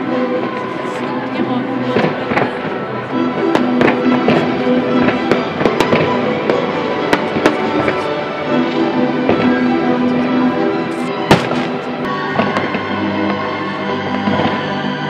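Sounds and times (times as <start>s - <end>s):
fireworks bangs and crackles: 0.0s - 15.0s
music with long held notes: 0.0s - 15.0s.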